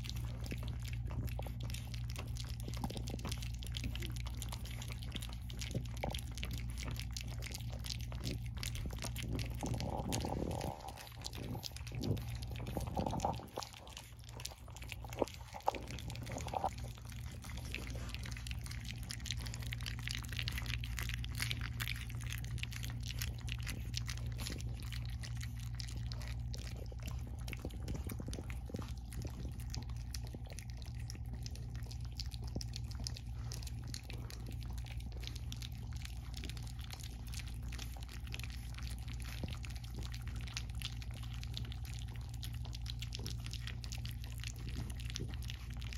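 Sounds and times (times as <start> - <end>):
puppies lapping from metal pan: 0.0 - 45.9.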